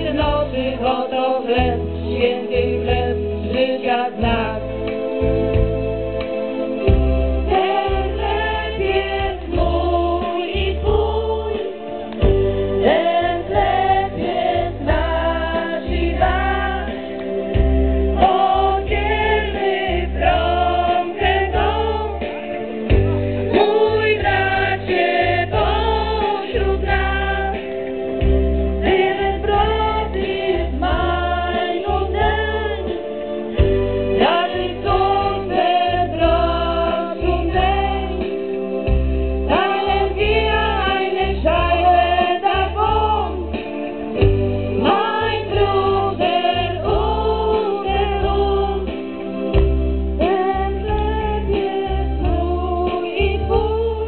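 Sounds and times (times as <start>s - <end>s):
women singing through pa: 0.0s - 4.8s, 7.5s - 28.2s, 28.8s - 38.6s, 39.5s - 49.6s, 50.2s - 54.0s
amplified accompaniment with bass: 0.0s - 54.0s.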